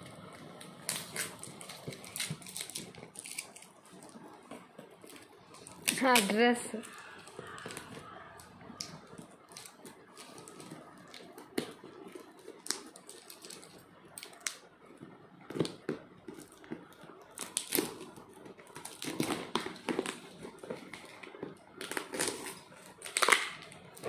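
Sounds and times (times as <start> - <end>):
packing tape crackling: 0.0 - 24.0.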